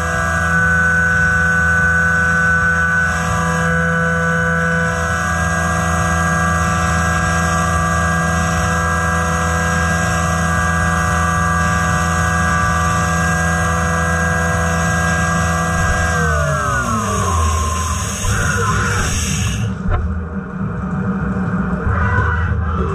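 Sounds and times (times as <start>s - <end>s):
milling machine cutting metal: 0.0s - 20.0s.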